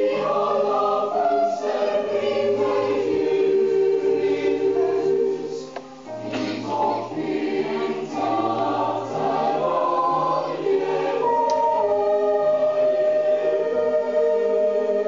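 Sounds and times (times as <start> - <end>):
choir singing a carol: 0.0 - 15.0.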